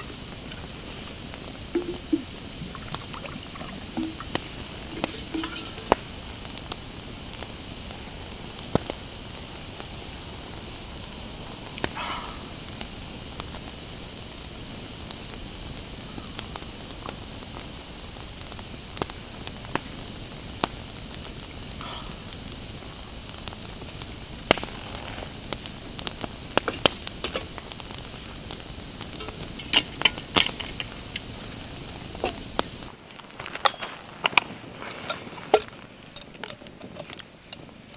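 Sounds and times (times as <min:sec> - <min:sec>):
campfire crackling: 0:00.0 - 0:37.9
sharp fire pops: 0:00.0 - 0:37.9
steady hiss: 0:00.0 - 0:37.9.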